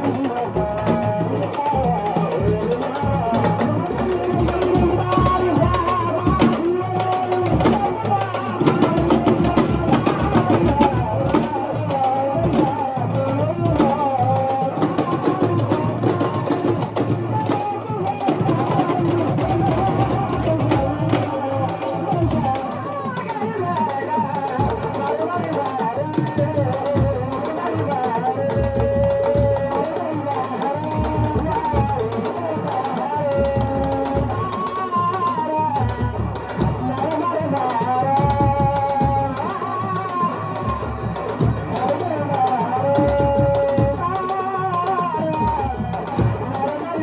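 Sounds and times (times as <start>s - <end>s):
drum and percussion music: 0.0s - 47.0s.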